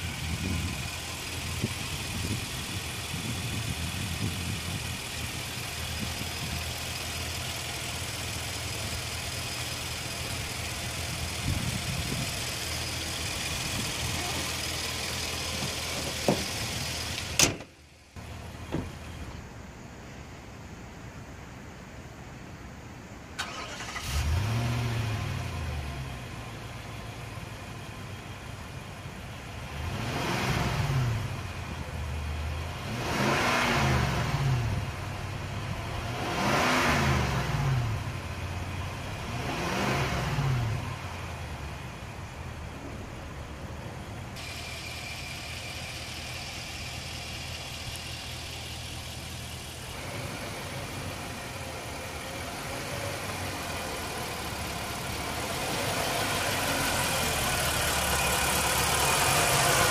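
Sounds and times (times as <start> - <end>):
car engine starting and revving: 0.0 - 19.2, 23.4 - 43.2, 44.0 - 59.9
car engine idling: 0.0 - 21.6, 23.4 - 33.2, 34.0 - 59.9.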